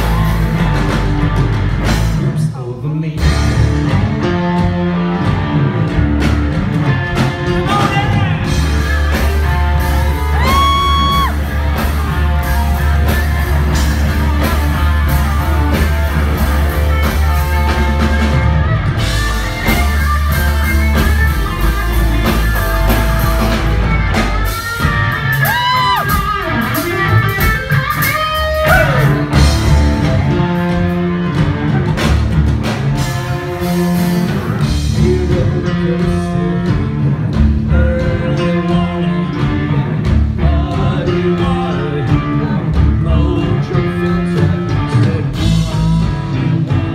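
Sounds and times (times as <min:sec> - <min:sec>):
bass guitar: 0:00.0 - 0:46.9
drums: 0:00.0 - 0:46.9.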